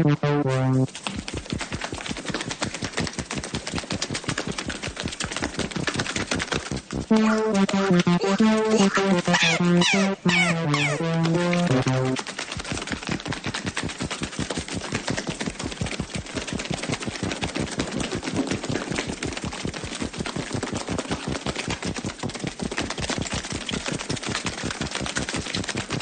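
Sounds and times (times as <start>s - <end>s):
rapid mechanical clicks: 0.8s - 8.6s, 11.0s - 26.0s.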